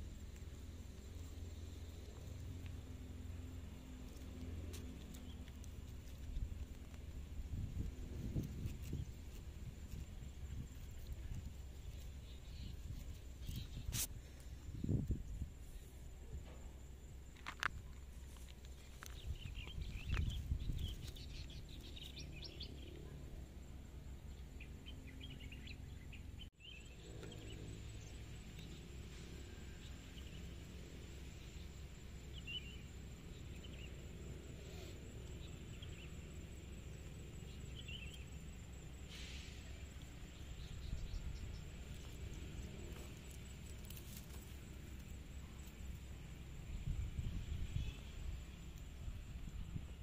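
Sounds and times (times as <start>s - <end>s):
low steady rumble: 0.0s - 50.0s.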